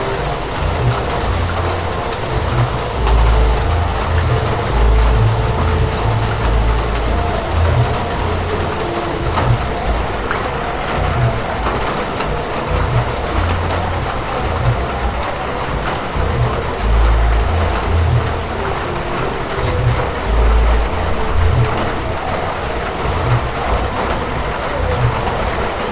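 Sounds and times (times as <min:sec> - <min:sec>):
deep uneven rumble: 0:00.0 - 0:25.9
heavy rain hissing: 0:00.0 - 0:25.9
rain drop impacts: 0:00.0 - 0:25.9.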